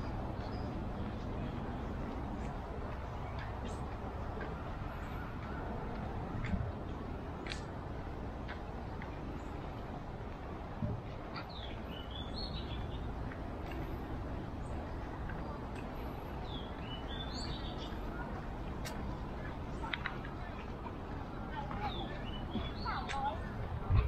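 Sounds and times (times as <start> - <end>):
low outdoor background hum: 0.0 - 24.0.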